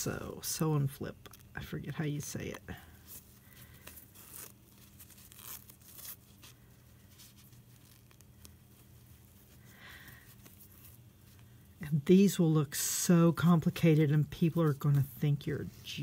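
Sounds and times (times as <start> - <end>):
fabric rustling and scraping: 1.5 - 16.0.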